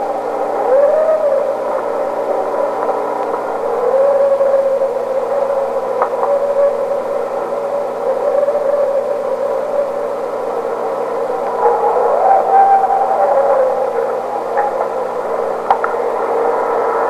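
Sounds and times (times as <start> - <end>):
long wavering animal call: 0.0 - 16.4
steady hiss: 0.0 - 17.0.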